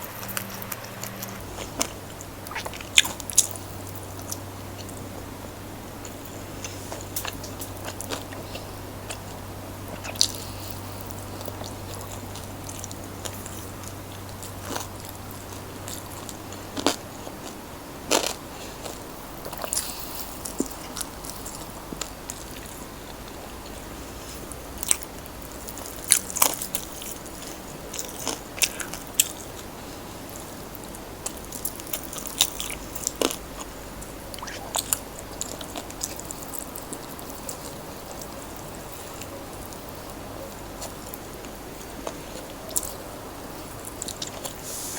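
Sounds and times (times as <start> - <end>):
quiet chewing: 0.0 - 44.9
crispy chicken crunching: 5.9 - 44.7.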